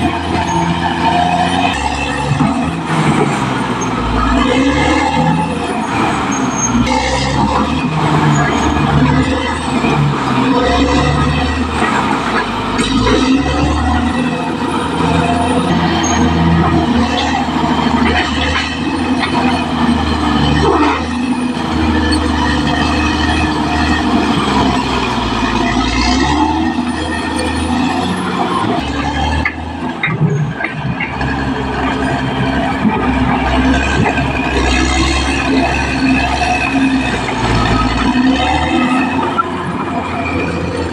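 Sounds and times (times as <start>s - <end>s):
bulldozer diesel engine under load: 0.0s - 40.9s
steel tracks clanking: 0.0s - 40.9s.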